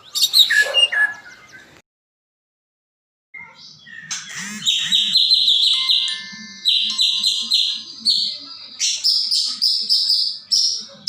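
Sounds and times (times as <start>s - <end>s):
birds rasping chirps: 0.0s - 1.8s, 3.4s - 11.0s.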